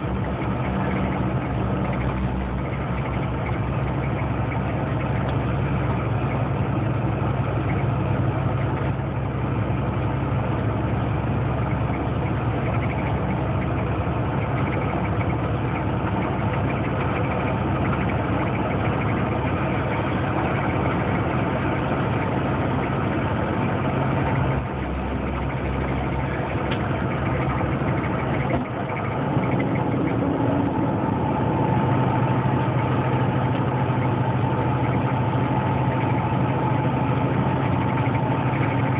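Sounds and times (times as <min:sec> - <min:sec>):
road noise: 0:00.0 - 0:38.9
truck engine droning: 0:00.0 - 0:38.9.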